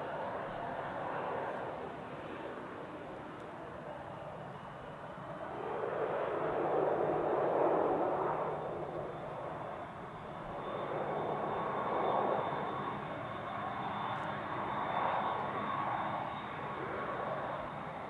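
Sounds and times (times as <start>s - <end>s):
jet engines taxiing: 0.0s - 18.0s.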